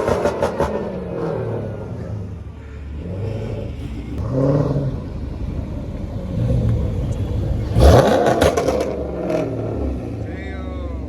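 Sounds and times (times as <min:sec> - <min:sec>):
car engine idling and revving: 0:00.0 - 0:11.0
loud engine blast: 0:00.0 - 0:11.0.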